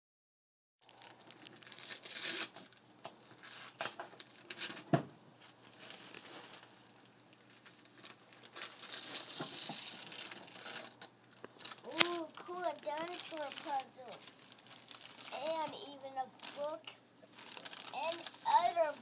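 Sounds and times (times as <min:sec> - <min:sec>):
wrapping paper rustling and tearing: 0:00.8 - 0:19.0.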